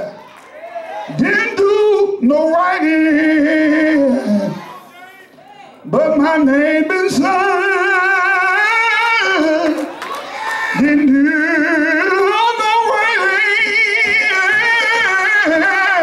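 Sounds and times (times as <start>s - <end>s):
man singing gospel notes: 1.1s - 4.6s, 5.8s - 10.0s, 10.7s - 16.0s.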